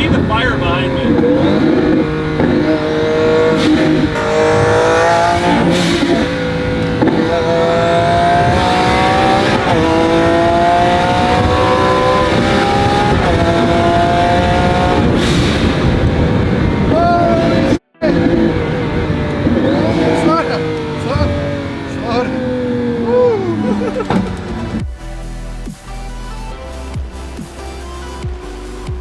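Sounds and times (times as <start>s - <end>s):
sports car engine accelerating: 0.0s - 29.0s.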